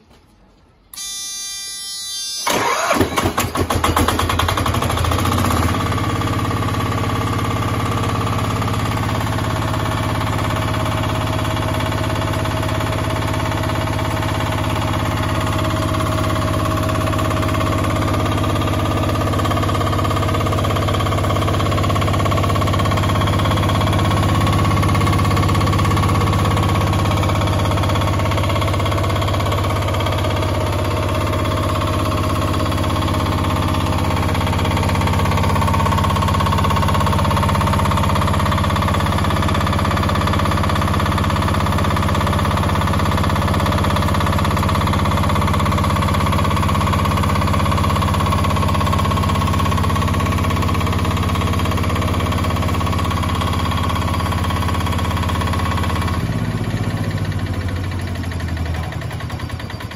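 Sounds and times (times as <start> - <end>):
diesel engine starting and idling: 2.0 - 59.9.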